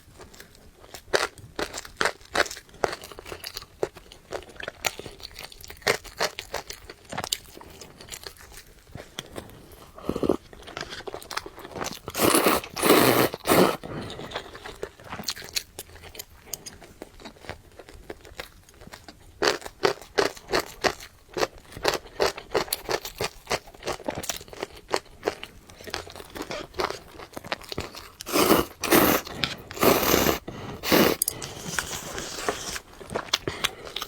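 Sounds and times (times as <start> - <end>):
crunchy chewing: 0.2 - 34.0.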